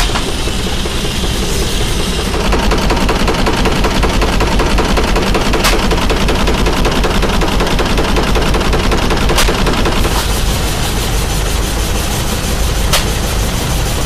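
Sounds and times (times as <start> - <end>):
sharp clicks: 0.0 - 13.8
steam engine exhaust chuffing: 0.0 - 14.0.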